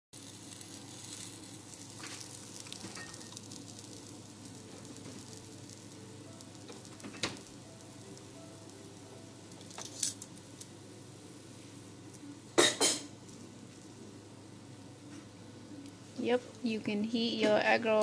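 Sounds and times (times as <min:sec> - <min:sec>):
food sizzling on griddle: 0:00.2 - 0:15.2.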